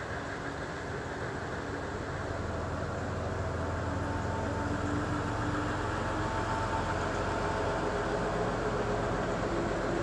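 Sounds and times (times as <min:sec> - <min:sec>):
locomotive engine low rumble: 0:00.0 - 0:10.0.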